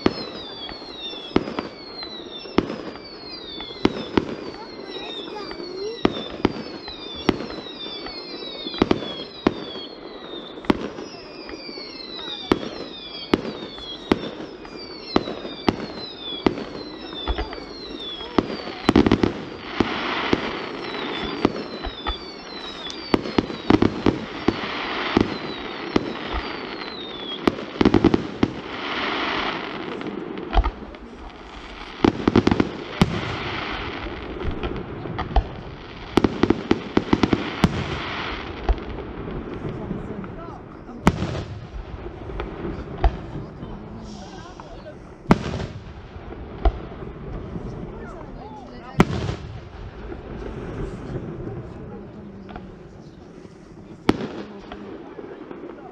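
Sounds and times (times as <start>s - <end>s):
fireworks whistles falling in pitch: 0.0s - 51.3s
fireworks bangs: 0.0s - 55.9s
fireworks crackling hiss: 0.0s - 55.9s.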